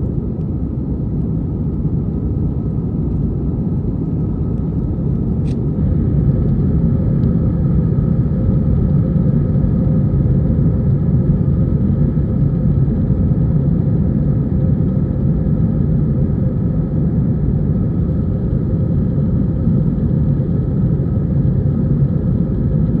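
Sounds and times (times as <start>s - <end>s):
jet engine drone in cabin: 0.0s - 23.0s.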